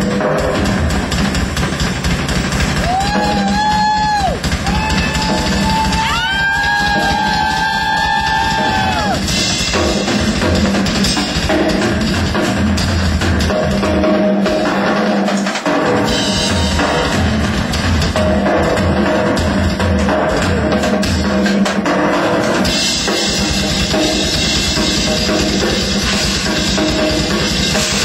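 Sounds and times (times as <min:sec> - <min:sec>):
drum kit solo: 0:00.0 - 0:28.0.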